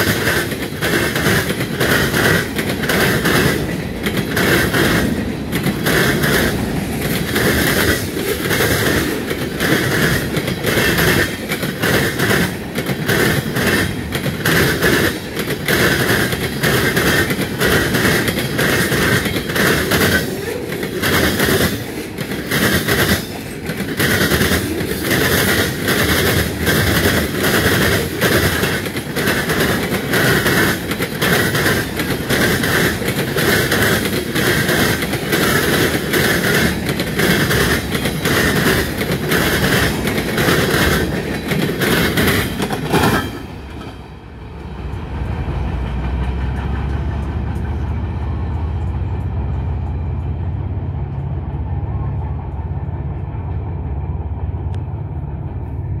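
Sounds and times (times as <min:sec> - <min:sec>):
steel wheels clacking over rail joints: 0:00.0 - 0:56.0.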